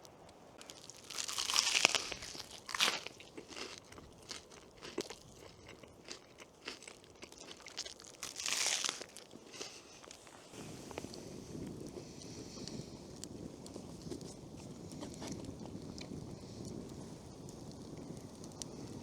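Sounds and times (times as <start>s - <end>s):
crunching: 0.3s - 18.8s.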